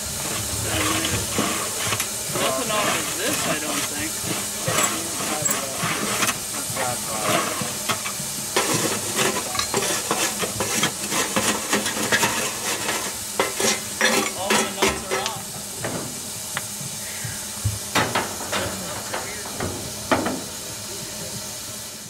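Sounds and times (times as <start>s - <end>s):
fire rake scraping coals: 0.0s - 22.0s
steam hissing: 0.0s - 22.0s.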